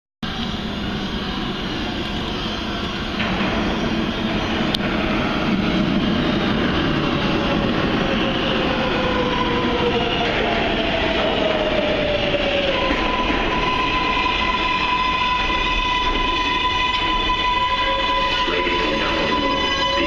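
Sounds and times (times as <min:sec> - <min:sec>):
subway train rumbling in tunnel: 0:00.2 - 0:20.0.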